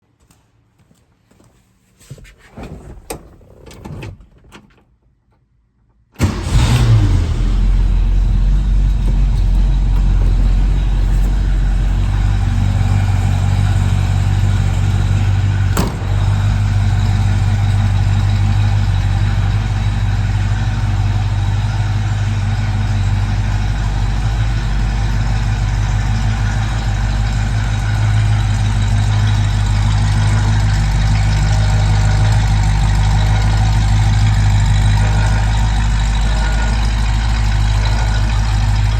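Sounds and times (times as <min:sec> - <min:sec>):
car engine starting and idling: 0:06.2 - 0:38.9.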